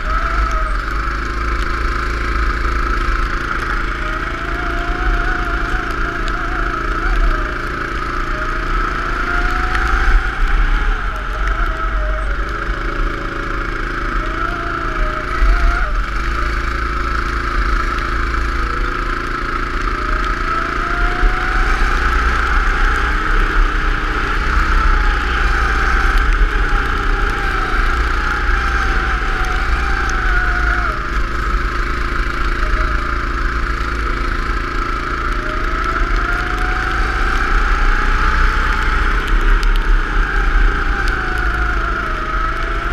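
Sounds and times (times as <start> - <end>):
go-kart engine revving: 0.0 - 42.9
low rumble: 0.0 - 42.9.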